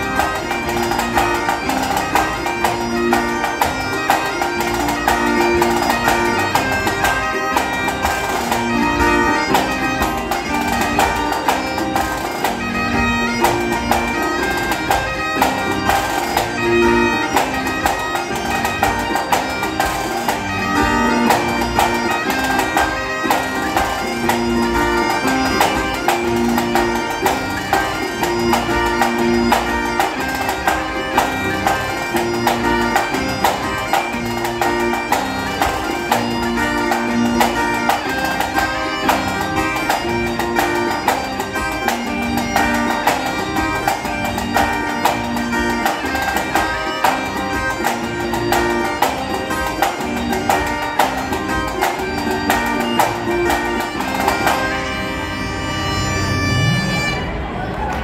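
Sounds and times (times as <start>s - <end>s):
bagpipes playing melody: 0.0s - 57.8s.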